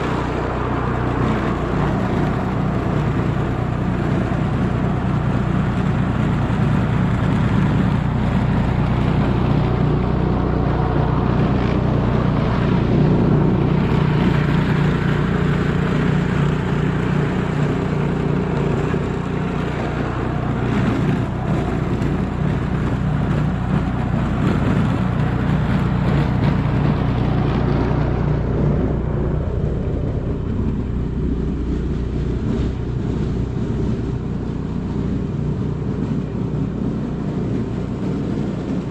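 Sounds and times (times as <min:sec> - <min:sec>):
car engine hum: 0:00.0 - 0:38.9
road noise hiss: 0:00.0 - 0:38.9.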